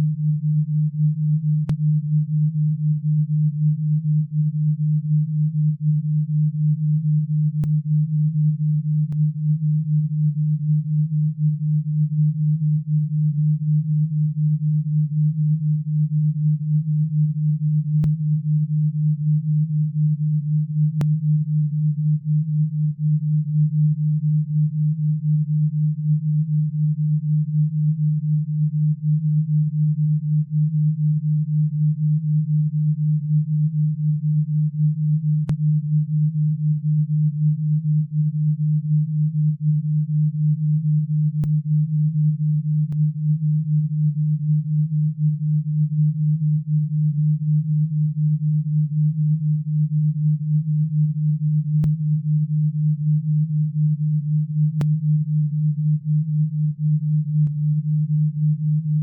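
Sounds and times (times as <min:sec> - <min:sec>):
pulsing low pure tone: 0:00.0 - 0:59.0.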